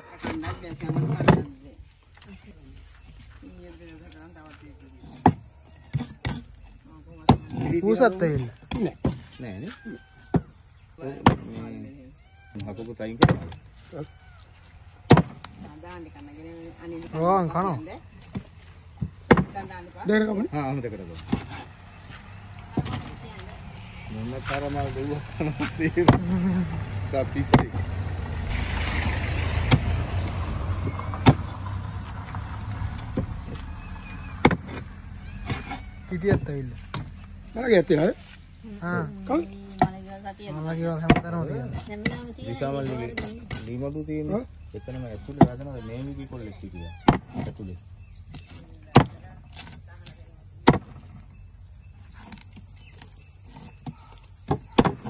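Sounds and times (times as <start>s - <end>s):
insect chirring: 0.0s - 55.0s.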